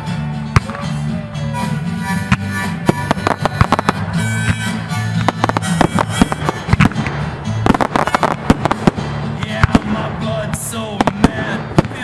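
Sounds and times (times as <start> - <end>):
music playing: 0.0 - 12.0
fireworks bangs and crackles: 2.3 - 12.0.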